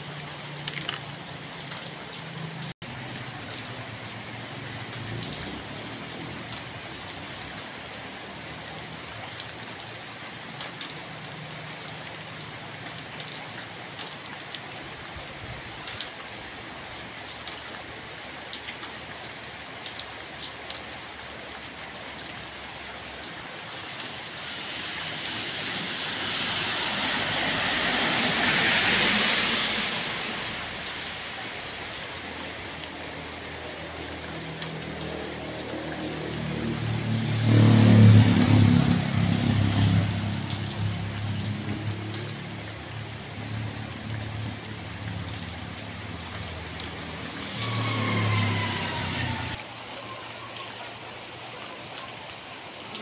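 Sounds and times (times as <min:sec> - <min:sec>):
rain on leaves and concrete: 0:00.0 - 0:53.0.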